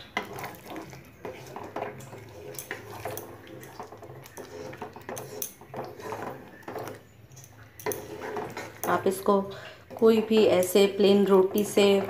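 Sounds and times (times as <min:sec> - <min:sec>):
spatula squelching and scraping pan: 0:00.0 - 0:12.0.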